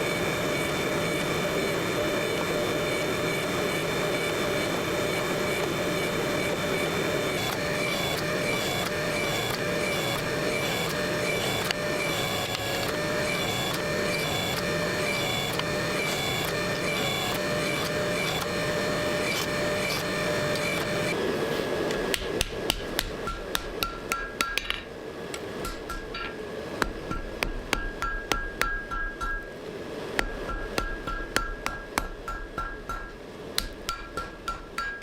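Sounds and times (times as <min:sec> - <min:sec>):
workshop machine running: 0:00.0 - 0:35.0.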